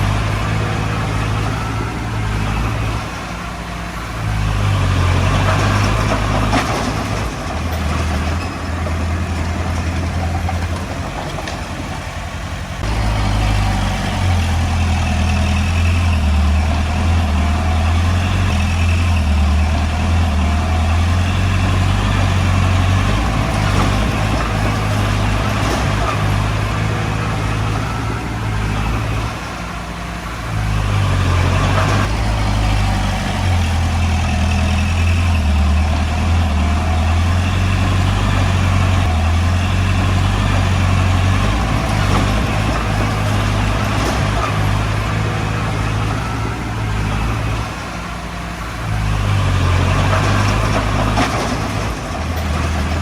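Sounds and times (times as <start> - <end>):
bulldozer diesel engine droning: 0.0 - 53.0.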